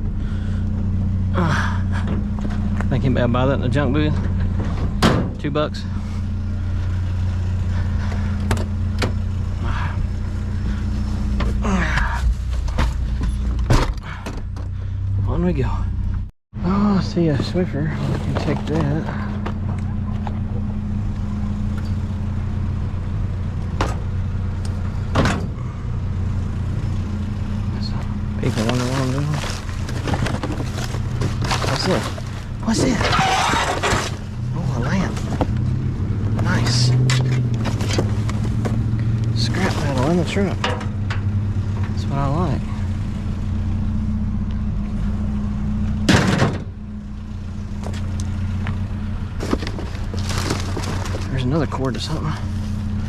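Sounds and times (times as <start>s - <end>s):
truck engine running: 0.0s - 53.0s.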